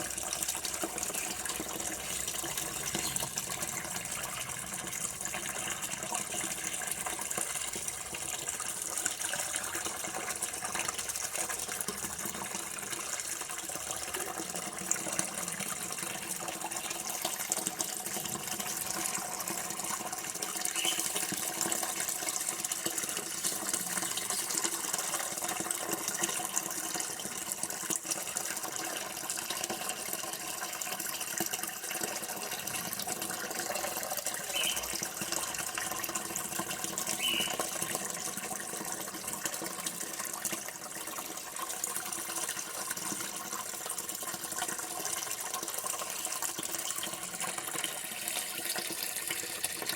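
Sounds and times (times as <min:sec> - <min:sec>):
running water pouring: 0:00.0 - 0:49.9.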